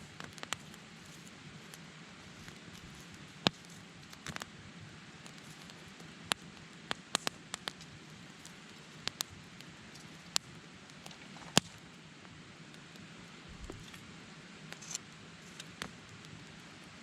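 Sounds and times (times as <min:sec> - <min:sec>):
campfire hissing: 0:00.0 - 0:17.0
fire crackling and popping: 0:00.0 - 0:17.0.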